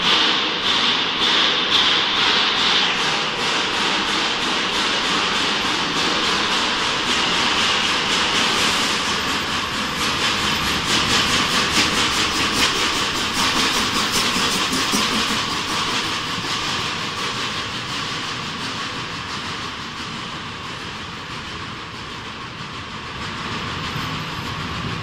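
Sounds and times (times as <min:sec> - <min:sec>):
steam locomotive hissing and clattering: 0:00.0 - 0:25.0
train wheels clicking over rail joints: 0:00.0 - 0:25.0.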